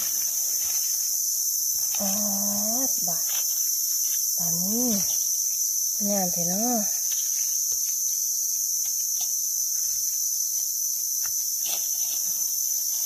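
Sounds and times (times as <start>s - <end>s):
insects chirping: 0.0s - 13.0s
rustling in dry leaves: 0.0s - 13.0s.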